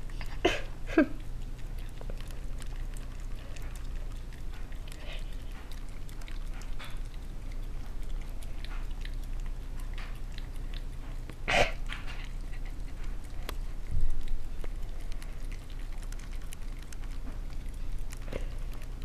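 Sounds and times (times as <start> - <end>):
dog licking and smacking lips: 0.0 - 19.0.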